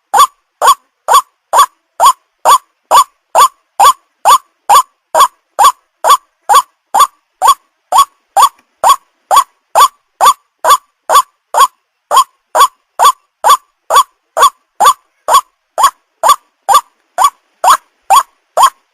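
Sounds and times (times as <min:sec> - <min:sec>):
waterhen honking call: 0:00.1 - 0:18.8.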